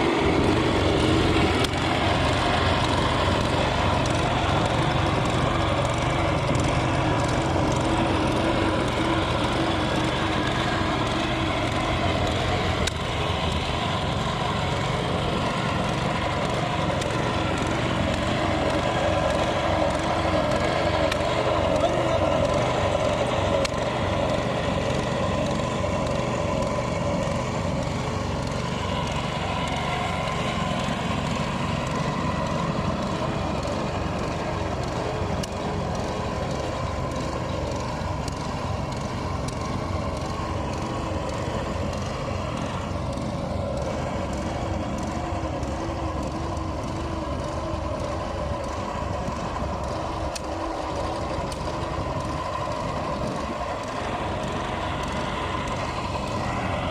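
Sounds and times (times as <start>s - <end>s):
heavy engine running: 0.0s - 56.9s.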